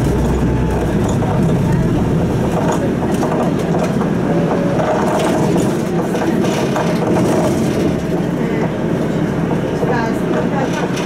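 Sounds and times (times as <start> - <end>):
bus body clicks and rattles: 0.0 - 11.0
bus engine and road noise: 0.0 - 11.0.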